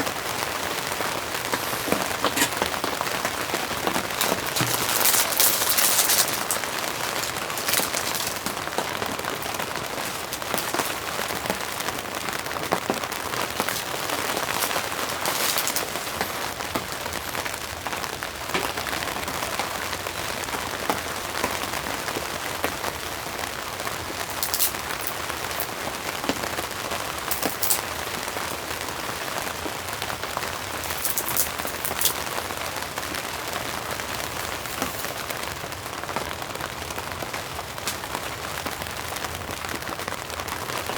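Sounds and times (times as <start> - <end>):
louder raindrops striking close: 0.0 - 40.9
steady rain: 0.0 - 40.9.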